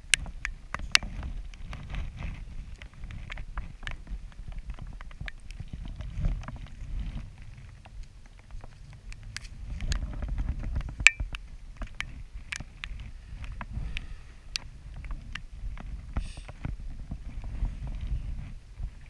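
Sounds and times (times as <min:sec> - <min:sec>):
raindrops ticking: 0:00.0 - 0:18.0
low steady rumble: 0:00.0 - 0:19.0.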